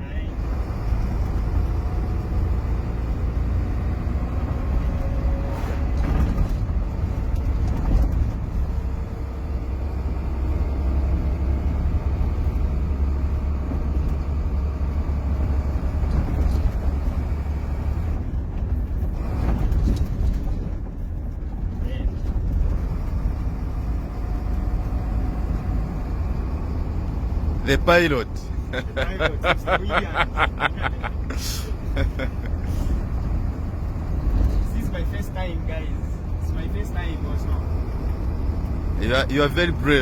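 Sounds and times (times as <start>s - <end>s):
truck diesel engine rumble: 0.0s - 40.0s.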